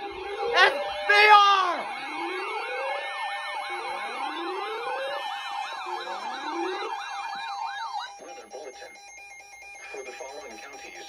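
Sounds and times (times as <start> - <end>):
siren fast yelp: 0.0 - 11.0
siren rising and falling wails: 0.0 - 11.0.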